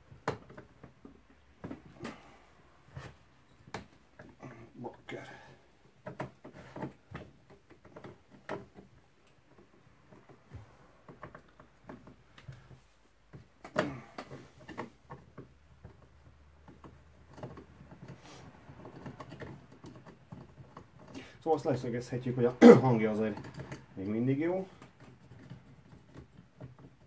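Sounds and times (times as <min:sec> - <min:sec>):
tools clicking and knocking: 0:00.0 - 0:02.4, 0:05.2 - 0:27.0.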